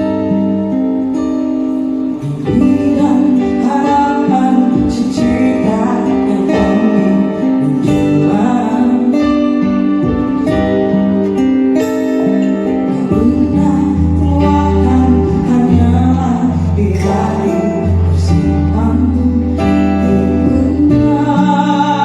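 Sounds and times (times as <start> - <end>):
guitar music over held chords: 0.0 - 22.0.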